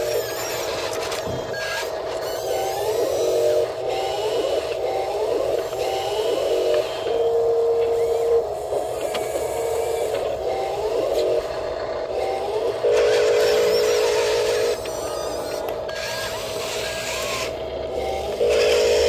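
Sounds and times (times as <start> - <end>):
model excavator motors whirring: 0.0 - 19.0.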